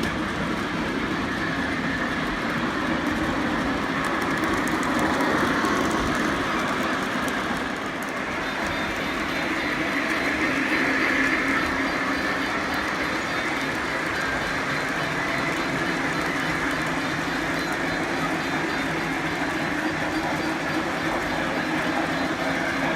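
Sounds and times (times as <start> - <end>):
model train running: 0.0 - 22.9.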